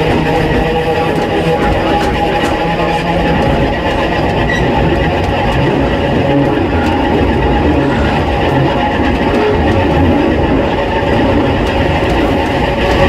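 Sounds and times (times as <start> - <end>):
railcar wheels rumbling: 0.0 - 13.0.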